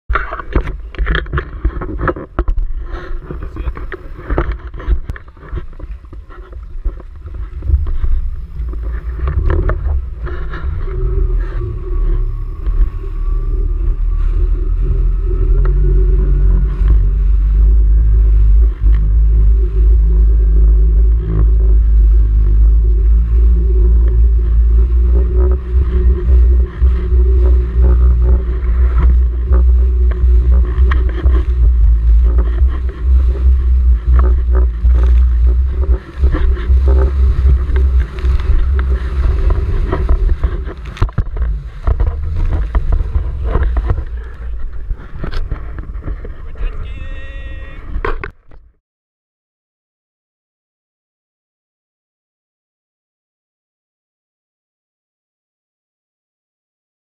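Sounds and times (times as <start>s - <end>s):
jet ski engine drone: 0.1s - 48.4s.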